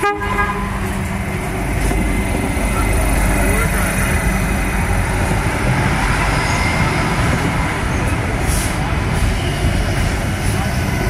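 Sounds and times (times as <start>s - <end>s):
diesel railcar passing slowly: 0.0s - 11.0s.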